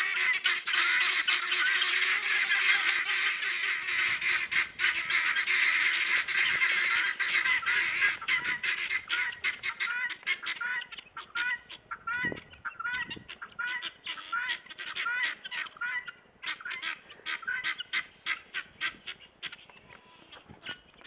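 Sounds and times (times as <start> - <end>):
flock of birds calling: 0.0 - 21.0.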